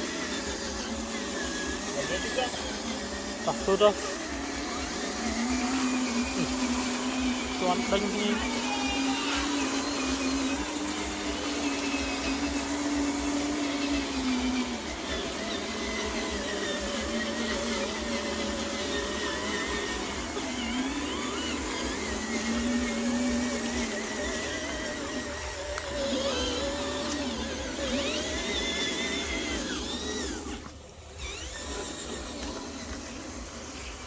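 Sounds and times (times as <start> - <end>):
small electric motor whining: 0.0 - 34.0.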